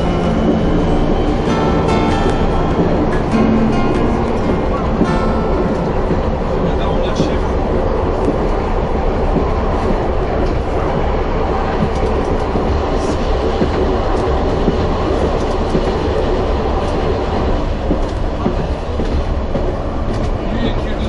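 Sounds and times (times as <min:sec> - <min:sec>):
train rumbling along track: 0:00.0 - 0:21.0.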